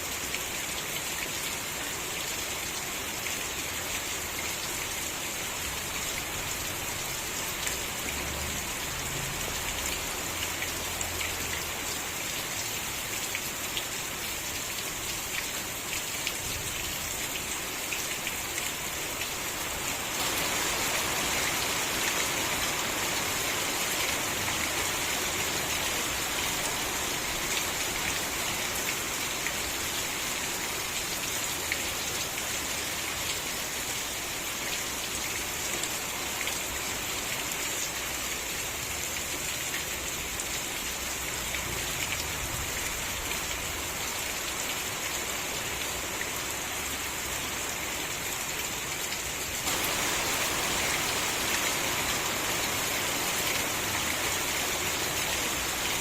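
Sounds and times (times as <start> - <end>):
rain drops ticking on surfaces: 0.0 - 56.0.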